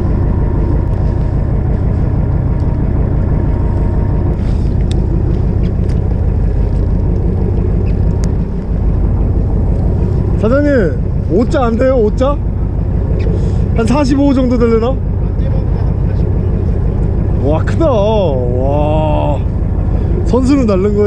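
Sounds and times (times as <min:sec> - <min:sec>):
boat engine low rumble: 0:00.0 - 0:21.0
water noise: 0:00.0 - 0:21.0
wind: 0:00.0 - 0:21.0.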